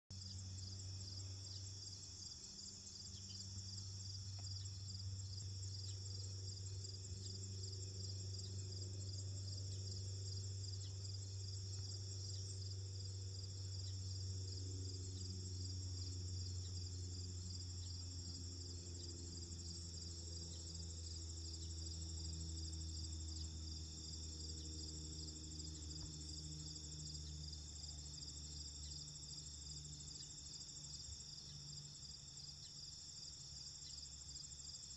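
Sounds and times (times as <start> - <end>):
insect chorus trilling: 0.2 - 34.9.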